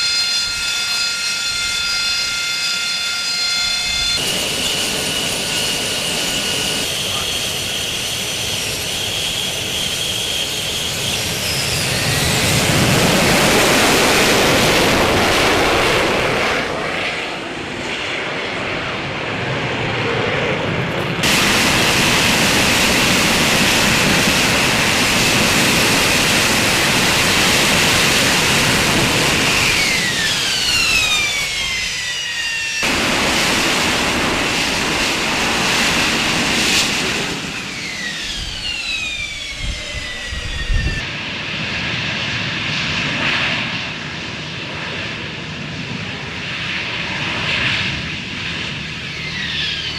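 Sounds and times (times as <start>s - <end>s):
jet engine roar with high whine: 0.0s - 49.9s.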